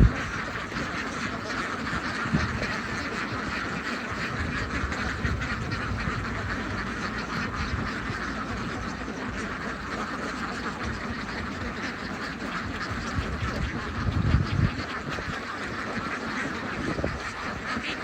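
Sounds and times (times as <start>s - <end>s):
flock of ducks quacking: 0.0s - 18.0s.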